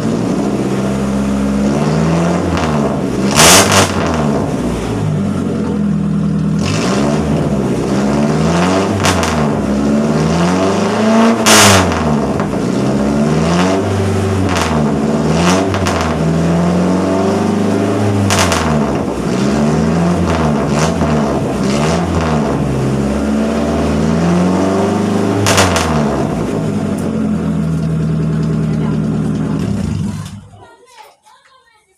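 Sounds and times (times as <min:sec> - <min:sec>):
engine revving through exhaust: 0:00.0 - 0:30.5
exhaust cracks: 0:00.0 - 0:30.6.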